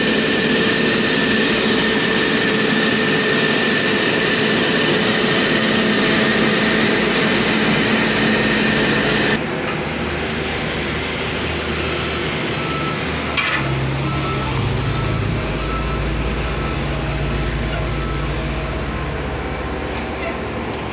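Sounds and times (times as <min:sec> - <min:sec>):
diesel construction machinery engines: 0:00.0 - 0:20.9.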